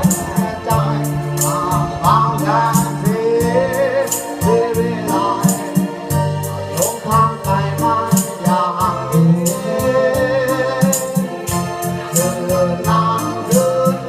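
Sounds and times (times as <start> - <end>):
backing track with bass: 0.0 - 14.0
person singing with vibrato: 0.0 - 14.0
ticking hi-hat beat: 0.0 - 14.0.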